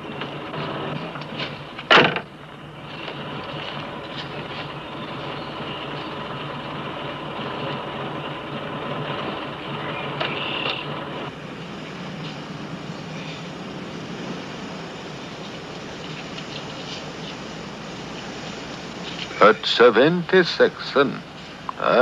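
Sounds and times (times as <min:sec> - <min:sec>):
car engine running: 0:00.0 - 0:22.0
steady hiss: 0:00.0 - 0:22.0.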